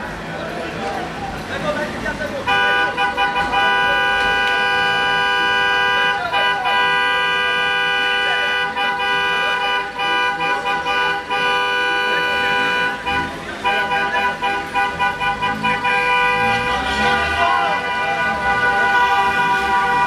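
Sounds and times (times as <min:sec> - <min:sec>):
car horn blast: 0:02.5 - 0:20.0.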